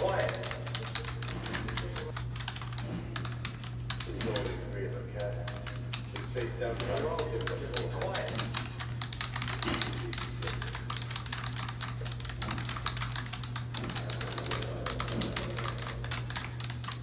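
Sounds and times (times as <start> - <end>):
fast keyboard typing: 0.0 - 17.0
steady low hum: 0.0 - 17.0.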